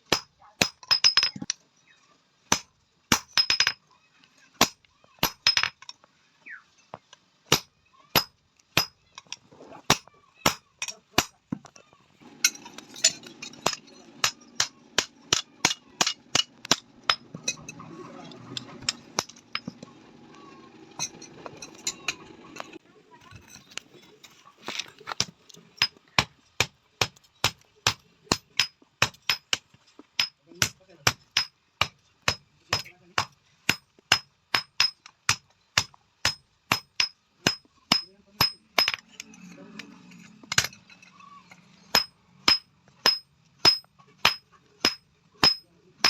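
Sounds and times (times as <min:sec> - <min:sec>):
low steady background noise: 0:00.0 - 0:46.0.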